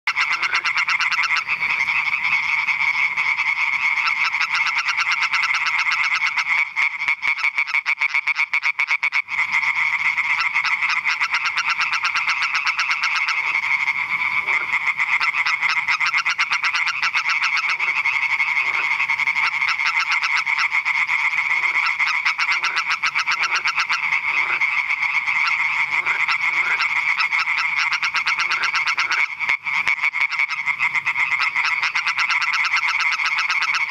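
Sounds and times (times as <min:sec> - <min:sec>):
tree frog calling: 0:00.1 - 0:33.9.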